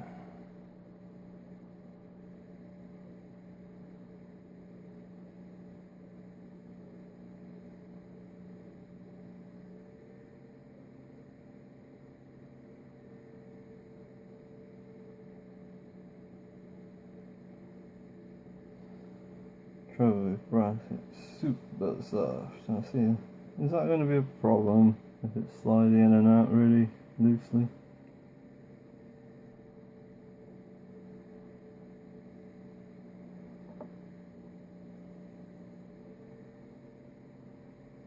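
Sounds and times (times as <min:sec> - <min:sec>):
faint low electrical hum: 0:00.0 - 0:38.0.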